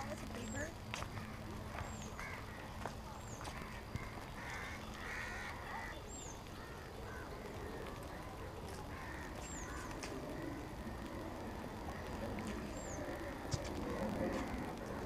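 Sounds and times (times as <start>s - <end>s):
long bird calls: 0.0s - 15.0s.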